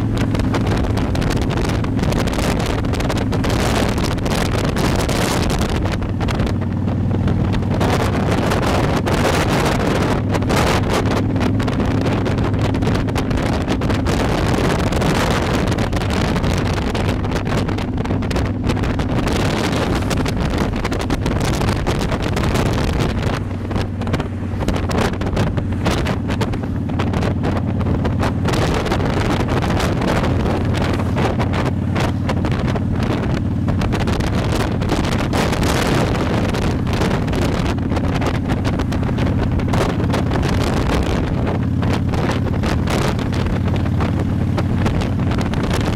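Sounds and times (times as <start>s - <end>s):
motorcycle engine running: 0.0s - 45.9s
wind buffeting microphone: 0.0s - 45.9s.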